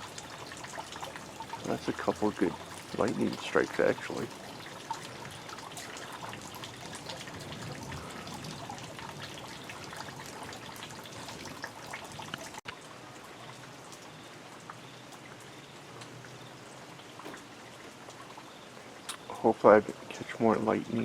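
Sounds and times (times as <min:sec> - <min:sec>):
light rain with dripping: 0:00.0 - 0:21.0.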